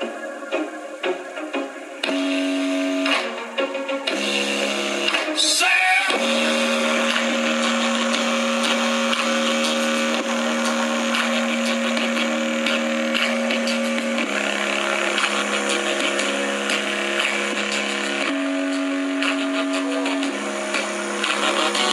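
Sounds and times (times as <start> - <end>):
distorted bass from speaker: 0.0 - 21.9.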